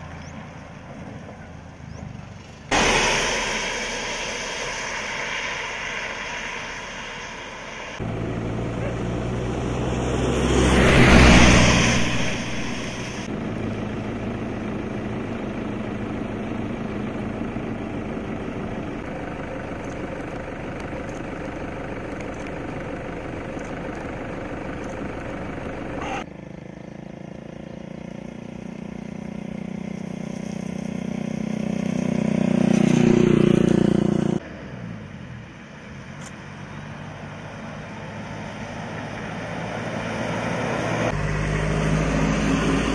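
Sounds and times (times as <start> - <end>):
steady traffic noise: 0.0 - 42.9
vehicles passing by: 0.0 - 42.9.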